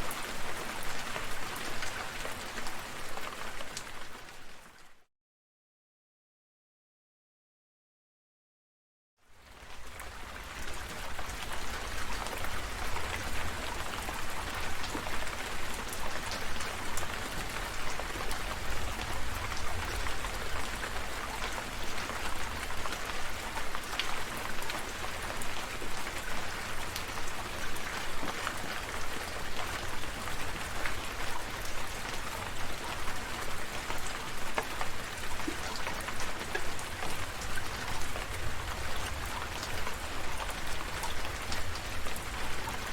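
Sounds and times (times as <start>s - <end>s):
steady rain falling: 0.0s - 5.0s, 9.2s - 42.9s.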